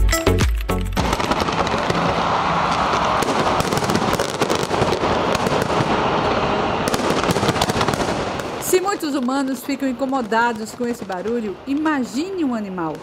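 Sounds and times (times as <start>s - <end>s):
fireworks crackling and banging: 0.9s - 13.0s.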